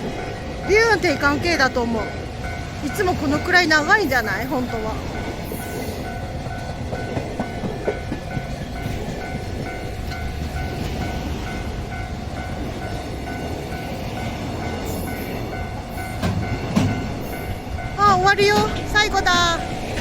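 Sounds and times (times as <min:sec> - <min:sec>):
level crossing bell ringing: 0:00.0 - 0:19.9
freight train wheels clacking: 0:00.0 - 0:20.0.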